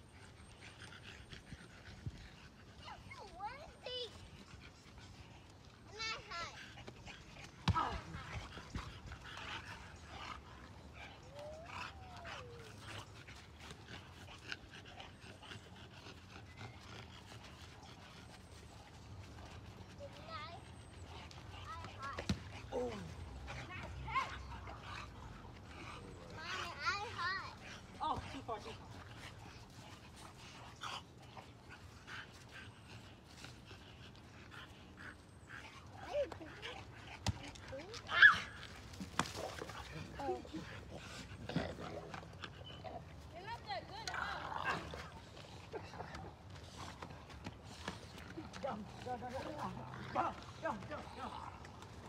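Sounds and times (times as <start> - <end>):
dog panting: 0.0 - 52.0.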